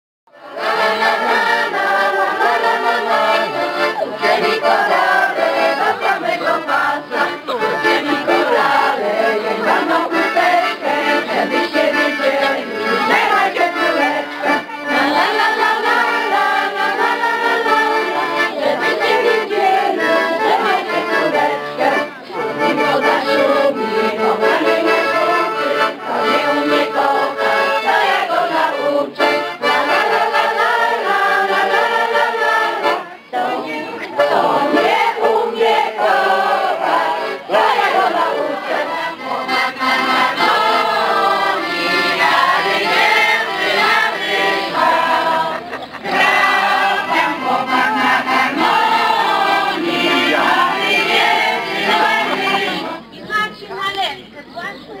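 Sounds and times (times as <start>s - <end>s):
piano accordion playing folk tune: 0.3s - 53.2s
crowd singing along: 0.4s - 53.7s.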